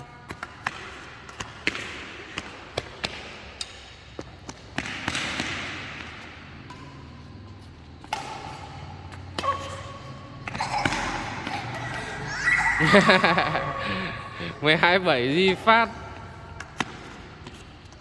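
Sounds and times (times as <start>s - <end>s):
racket hitting shuttlecock: 0.3s - 14.6s, 15.3s - 18.0s.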